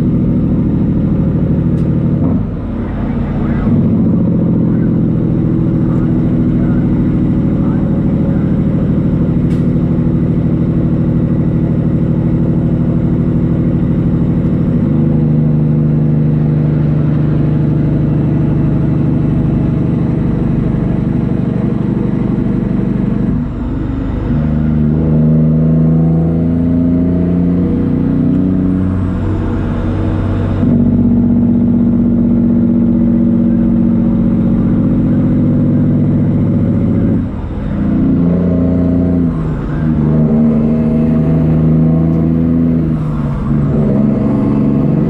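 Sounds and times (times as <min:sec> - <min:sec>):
truck diesel engine pulling: 0:00.0 - 0:45.0.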